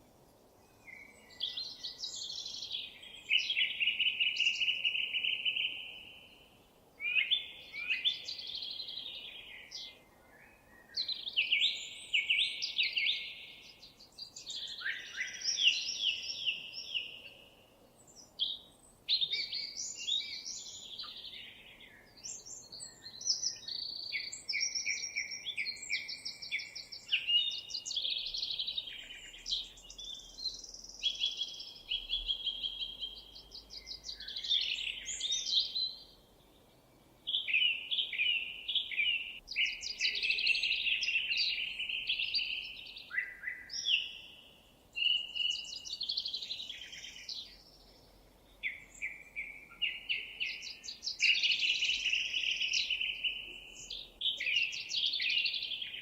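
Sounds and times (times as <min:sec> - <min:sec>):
songbirds warbling and trilling: 0:00.0 - 0:56.0.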